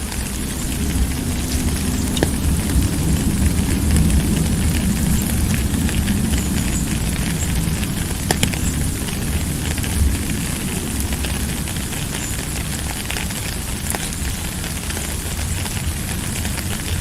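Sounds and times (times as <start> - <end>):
sharp ticks of raindrops: 0.0 - 17.0
steady rain hiss: 0.0 - 17.0.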